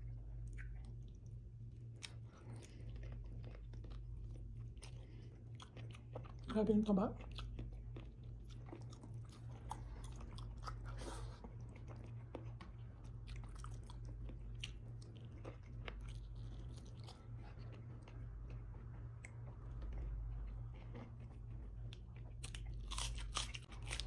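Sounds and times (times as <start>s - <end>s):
close-miked chewing: 0.0s - 24.0s
steady low hum: 0.0s - 24.0s.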